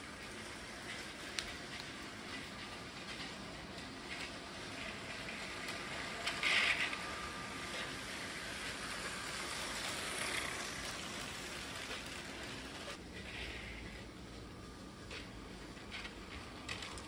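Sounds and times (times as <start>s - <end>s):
toy train clatter: 0.0s - 13.8s, 15.1s - 17.0s
toy train rattling on track: 0.0s - 14.0s, 15.1s - 17.0s.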